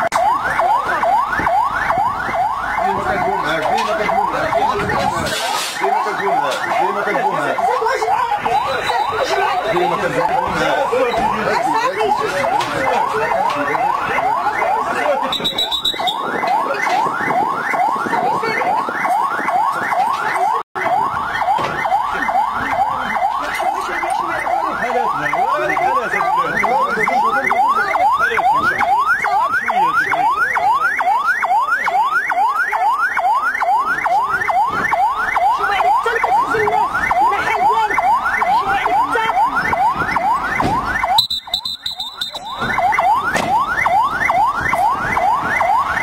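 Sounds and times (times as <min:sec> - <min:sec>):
emergency siren yelping: 0:00.0 - 0:46.0.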